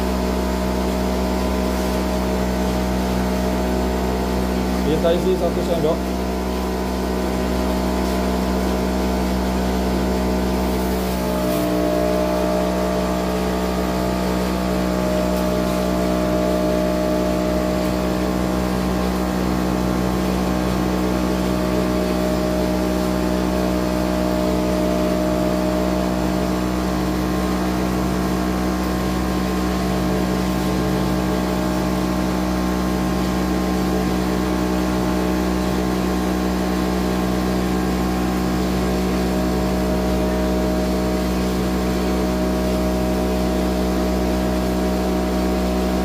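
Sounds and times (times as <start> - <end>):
cotton candy machine motor humming: 0.0 - 46.0.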